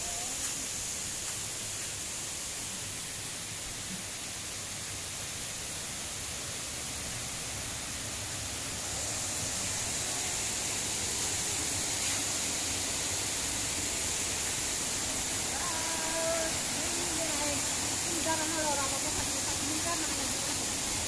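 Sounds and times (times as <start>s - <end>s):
water rushing down a stream: 0.0s - 21.0s.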